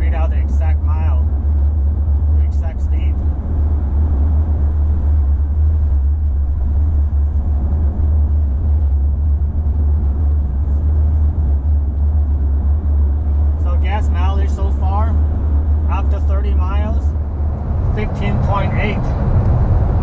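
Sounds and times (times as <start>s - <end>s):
tyre road and engine rumble: 0.0s - 20.0s.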